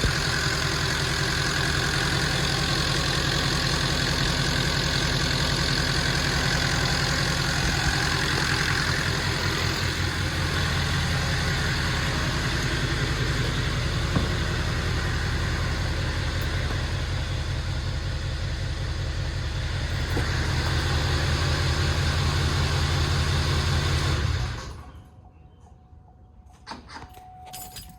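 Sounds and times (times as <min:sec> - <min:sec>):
engine ticking: 0:00.0 - 0:24.9
diesel engine idling: 0:00.0 - 0:25.0.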